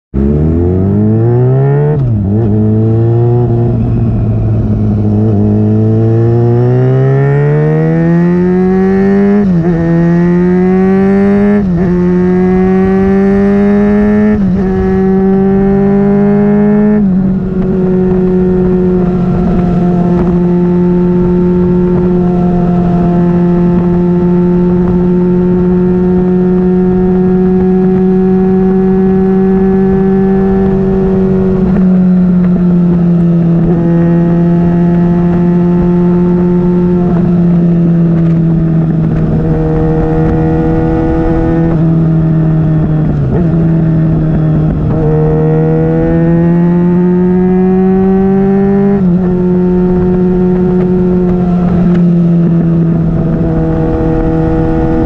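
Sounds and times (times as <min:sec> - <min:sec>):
motorcycle engine accelerating: 0:00.1 - 0:55.0.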